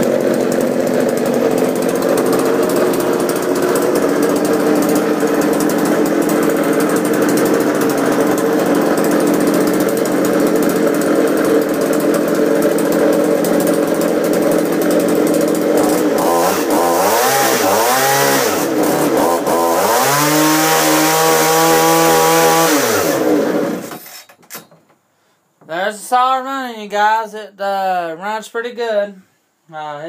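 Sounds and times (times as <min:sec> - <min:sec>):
chainsaw revving: 0:00.0 - 0:24.1.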